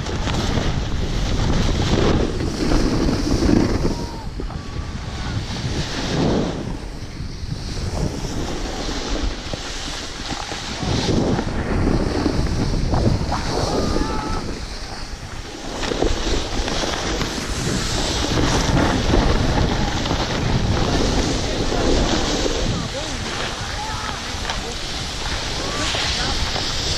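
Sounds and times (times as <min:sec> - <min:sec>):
skis scraping over packed snow: 0:00.0 - 0:26.9
wind buffeting microphone: 0:00.0 - 0:26.9.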